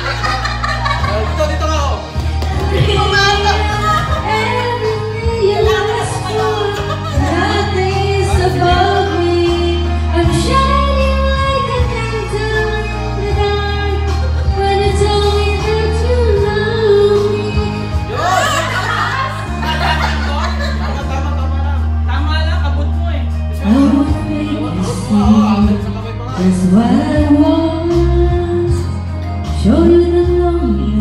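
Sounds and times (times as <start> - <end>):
karaoke backing track: 0.0 - 31.0
woman singing karaoke: 2.2 - 19.6, 23.6 - 31.0.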